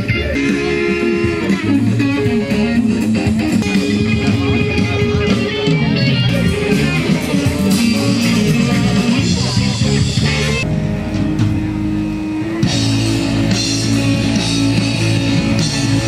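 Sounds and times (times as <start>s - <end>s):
band music with guitar and bass: 0.0s - 16.0s.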